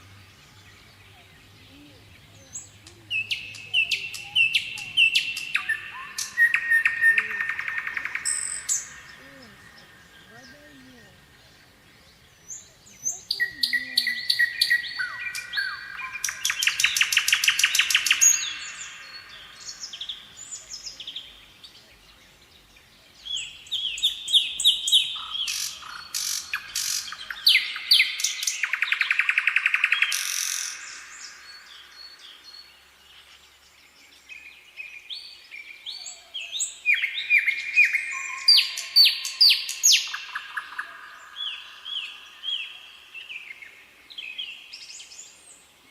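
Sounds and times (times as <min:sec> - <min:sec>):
songbird chirping and trilling: 0:00.0 - 0:45.9.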